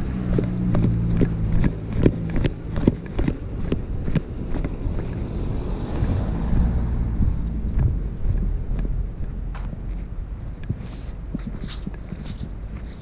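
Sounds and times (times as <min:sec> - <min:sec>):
car engine humming: 0:00.0 - 0:13.0
footsteps on cobblestones: 0:00.0 - 0:13.0
wind on microphone: 0:00.0 - 0:13.0.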